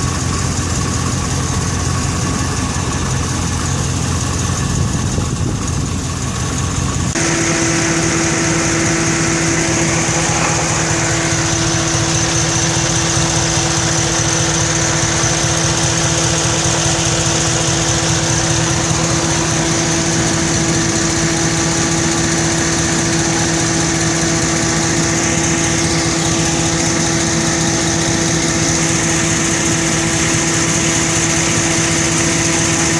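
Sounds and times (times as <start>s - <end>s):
engine idling: 0.0s - 32.9s
steady tone over engine: 0.0s - 32.9s.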